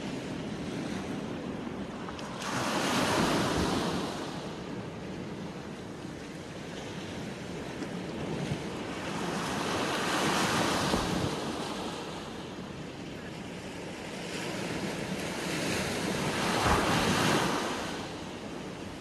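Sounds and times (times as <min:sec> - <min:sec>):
sea waves washing and splashing: 0:00.0 - 0:19.0.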